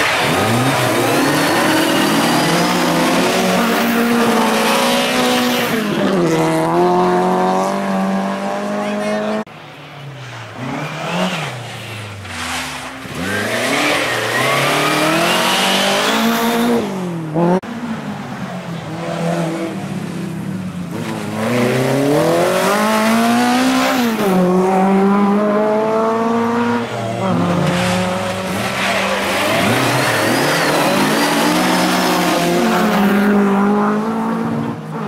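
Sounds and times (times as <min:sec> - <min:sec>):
rally car engine revving: 0:00.0 - 0:09.5, 0:10.3 - 0:17.7, 0:20.9 - 0:35.0.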